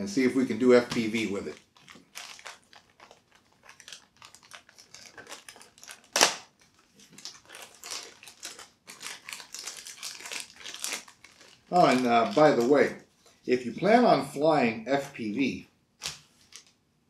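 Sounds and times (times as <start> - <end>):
packaging crinkling: 0.2 - 13.1, 16.0 - 16.8.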